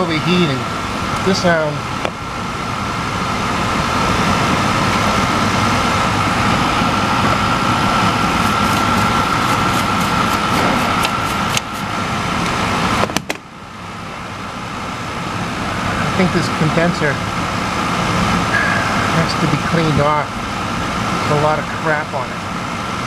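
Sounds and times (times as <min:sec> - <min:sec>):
air conditioner compressor whine: 0:00.0 - 0:23.0.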